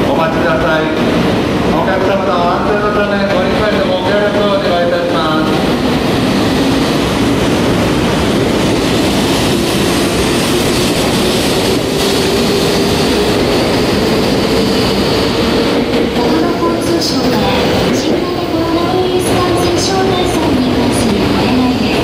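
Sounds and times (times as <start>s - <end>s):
train wheels rushing: 0.0s - 22.0s.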